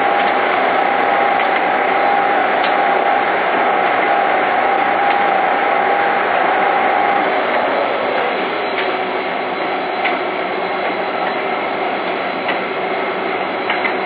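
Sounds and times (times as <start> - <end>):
shredder running: 0.0 - 13.4.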